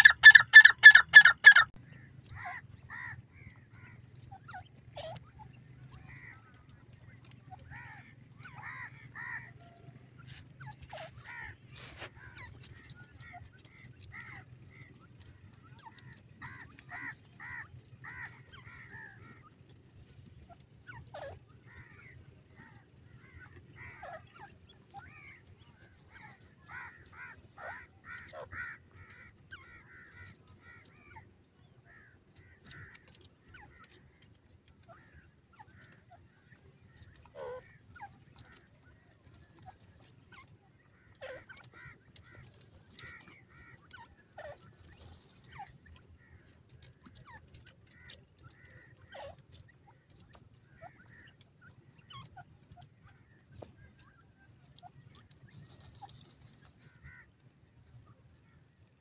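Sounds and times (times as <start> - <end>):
birds chirping: 0.0 - 59.0
birds scratching dry soil: 0.0 - 59.0.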